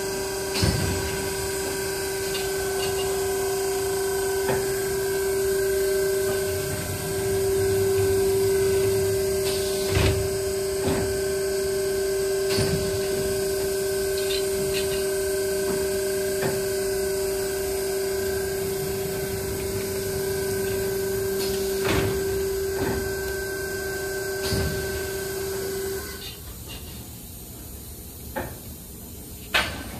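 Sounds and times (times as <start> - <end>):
machine humming: 0.0 - 26.3.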